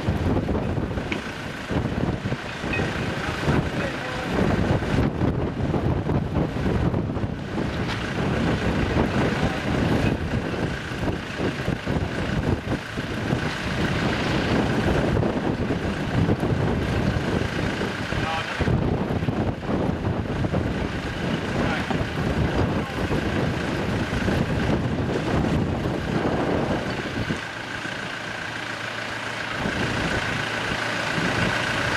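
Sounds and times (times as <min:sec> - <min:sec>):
wind gusting across microphone: 0:00.0 - 0:31.9.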